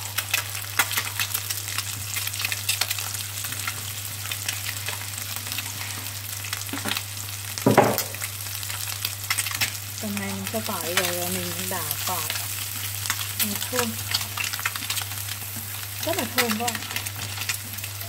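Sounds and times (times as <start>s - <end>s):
eggs sizzling in a pan: 0.0s - 18.0s.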